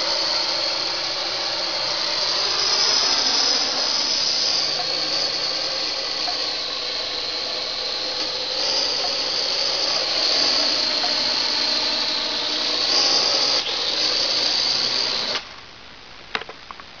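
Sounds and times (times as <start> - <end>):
drone propellers whirring: 0.0 - 15.4.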